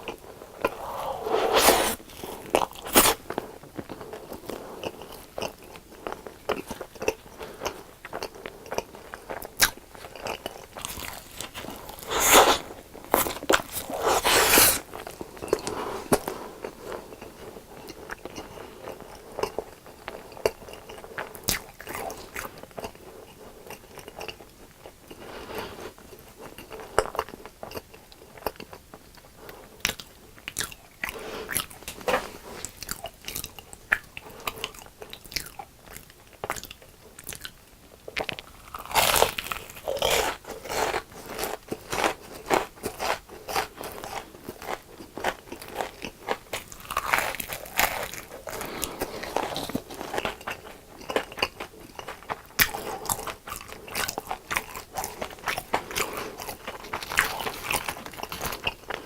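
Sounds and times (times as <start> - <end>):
chewing crunchy fried food: 0.0 - 59.0.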